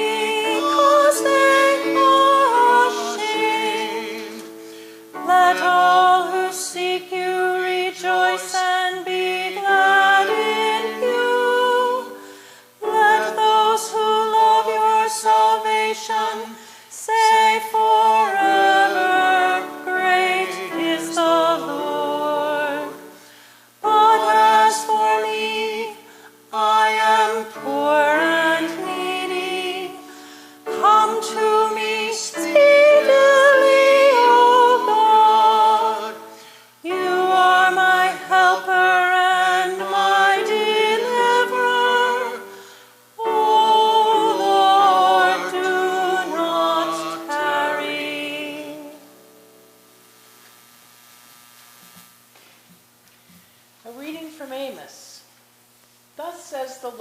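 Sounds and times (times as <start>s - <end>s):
woman singing a hymn: 0.0s - 49.3s
held accompanying notes: 0.0s - 49.8s.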